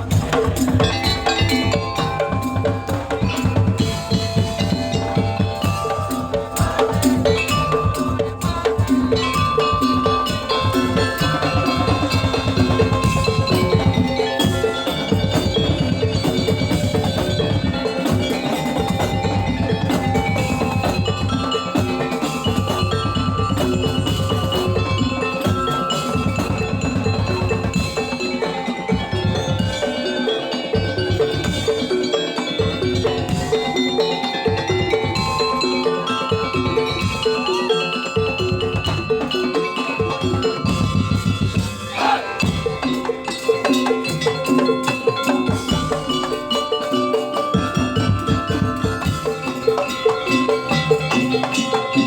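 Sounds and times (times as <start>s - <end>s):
continuous drumming: 0.0s - 52.0s
ringing tuned metal mallet instruments: 0.0s - 52.0s.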